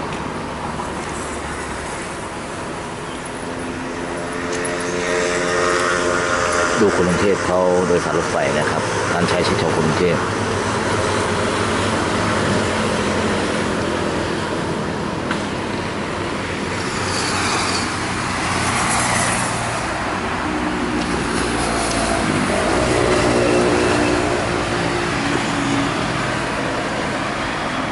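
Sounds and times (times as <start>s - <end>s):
train engine noise: 0.0s - 27.9s.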